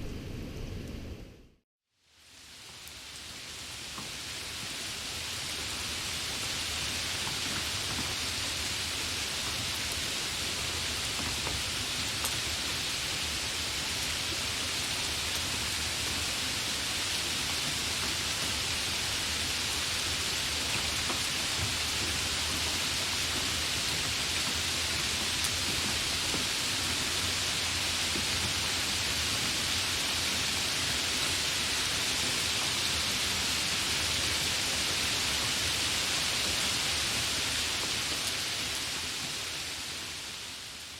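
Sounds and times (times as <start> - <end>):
rain falling: 2.0 - 40.9.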